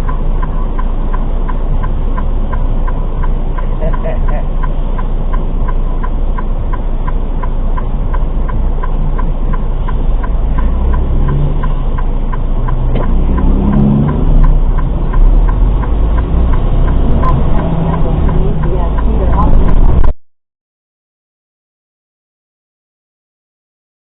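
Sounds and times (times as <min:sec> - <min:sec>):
even ticking: 0:00.0 - 0:20.1
road noise: 0:00.0 - 0:20.2
vehicle engine rumble: 0:00.0 - 0:20.2.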